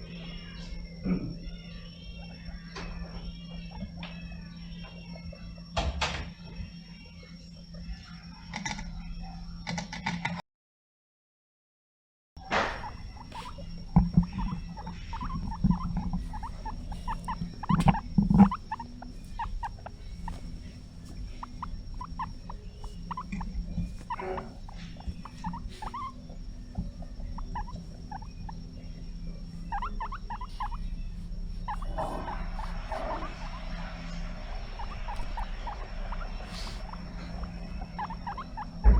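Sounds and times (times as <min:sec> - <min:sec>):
guinea pig squeaking: 0:00.0 - 0:10.2, 0:12.4 - 0:38.9.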